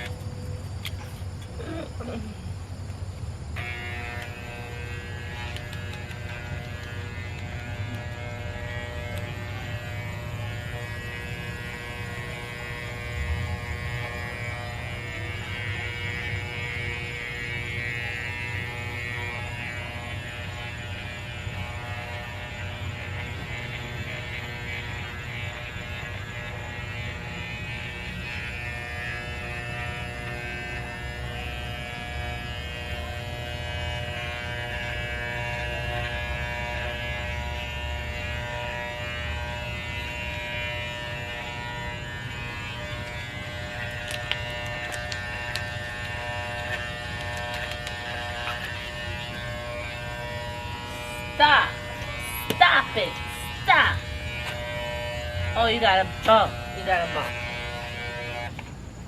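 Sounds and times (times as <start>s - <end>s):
electric clippers humming: 0.0s - 59.0s.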